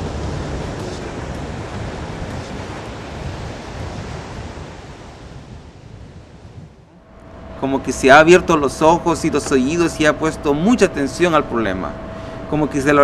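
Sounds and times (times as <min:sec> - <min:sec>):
low rushing noise: 0:00.0 - 0:13.0.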